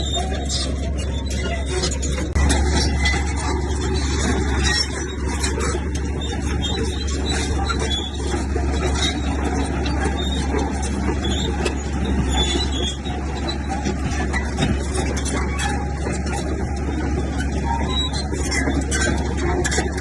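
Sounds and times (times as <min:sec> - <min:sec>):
diesel machinery engine rumble: 0:00.0 - 0:20.0
metallic ticks and squeaks: 0:00.0 - 0:20.0.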